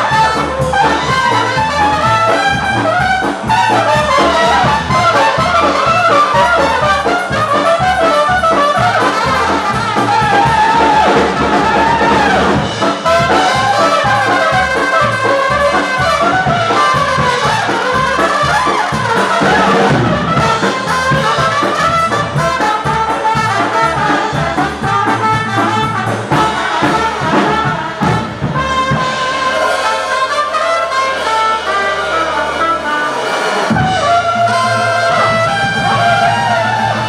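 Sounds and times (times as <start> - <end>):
accordion: 0.0 - 37.0
drum kit beat: 0.0 - 37.0
trumpets playing: 0.0 - 37.0.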